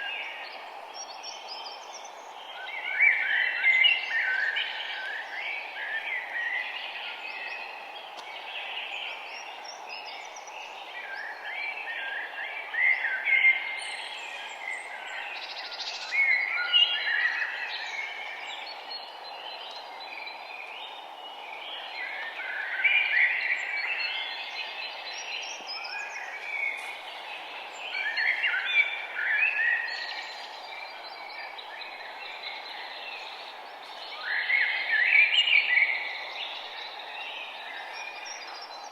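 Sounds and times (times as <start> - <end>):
songbirds chirping: 0.0 - 38.9
steady background hiss: 0.0 - 38.9.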